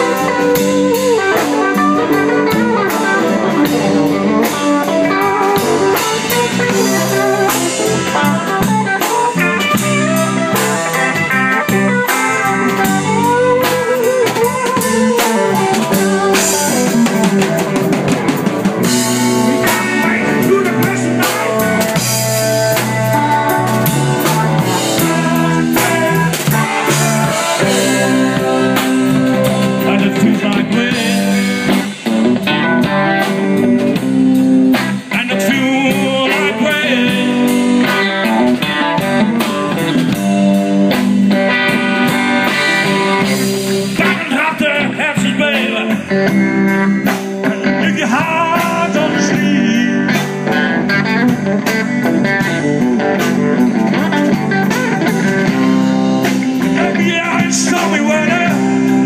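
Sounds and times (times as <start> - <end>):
bass and drums: 0.0 - 59.0
lead guitar: 0.0 - 59.0.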